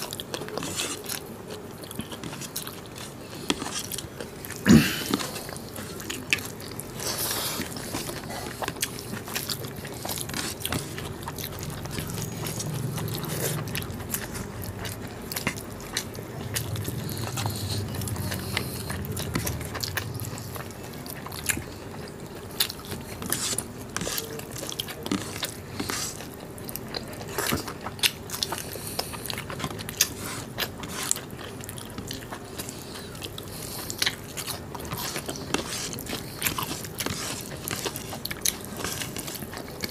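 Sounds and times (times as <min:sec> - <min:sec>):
chewing and wet mouth sounds: 0:00.0 - 0:39.9.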